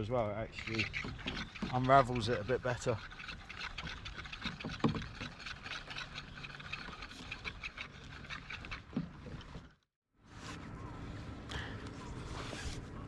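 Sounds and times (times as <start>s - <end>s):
wet rope being hauled: 0.0s - 10.7s.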